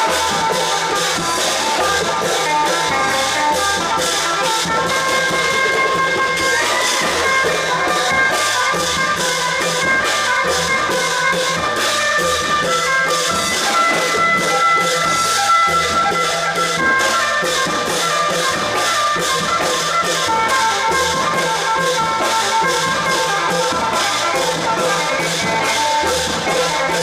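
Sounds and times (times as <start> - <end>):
drum ensemble playing: 0.0 - 27.0.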